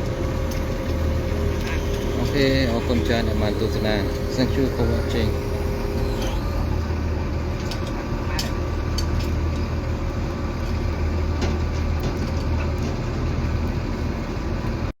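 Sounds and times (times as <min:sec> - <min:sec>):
diesel machinery humming: 0:00.0 - 0:14.9.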